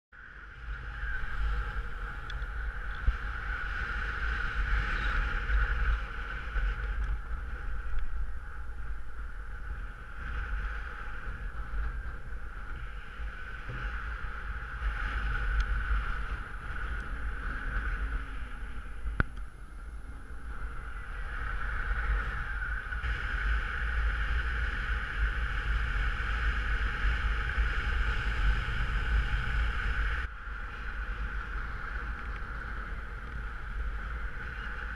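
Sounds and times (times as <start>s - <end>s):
wind buffeting microphone: 0.2s - 34.9s.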